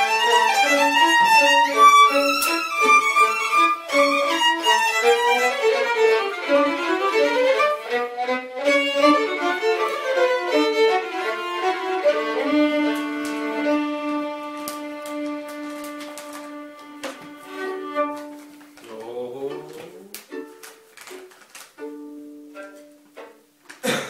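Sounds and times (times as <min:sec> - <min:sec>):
two violins playing folk tune: 0:00.0 - 0:23.5.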